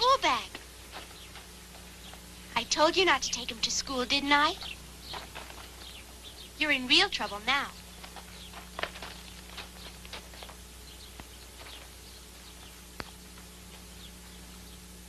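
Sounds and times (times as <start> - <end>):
film soundtrack hiss and hum: 0.0 - 15.0.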